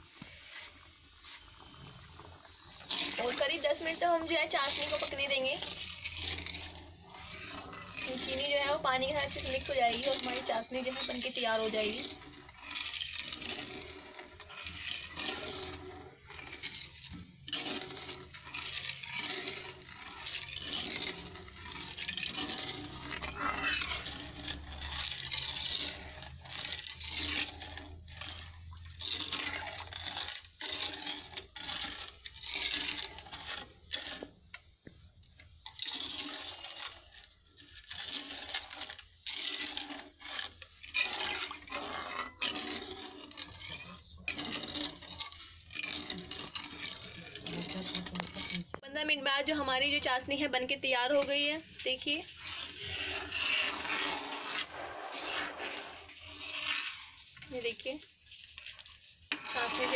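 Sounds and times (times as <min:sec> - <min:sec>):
liquid swishing in pot: 0:00.0 - 0:59.9
metal spoon scraping and clinking pot: 0:01.3 - 0:34.7, 0:35.3 - 0:59.9.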